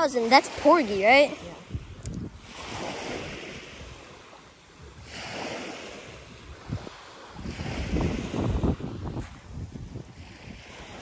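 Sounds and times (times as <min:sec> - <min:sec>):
waves washing onto pebble shore: 0:00.0 - 0:11.0
wind buffeting microphone: 0:00.0 - 0:11.0.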